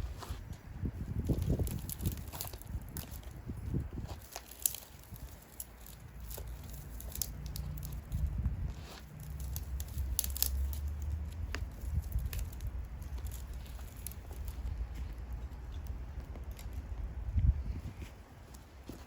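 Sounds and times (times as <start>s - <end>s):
steady low rumble: 0.0s - 19.0s
bonfire crackling and popping: 1.1s - 17.4s.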